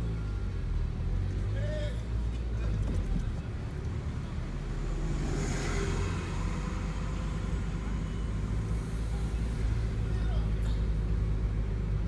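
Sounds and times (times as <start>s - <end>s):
car engine and road rumble: 0.0s - 12.0s
traffic noise: 0.0s - 12.0s.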